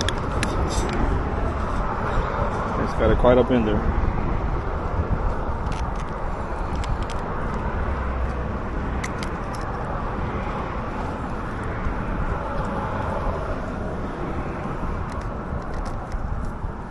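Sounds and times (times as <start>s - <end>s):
road traffic rumble: 0.0s - 16.9s
wind noise: 0.0s - 16.9s.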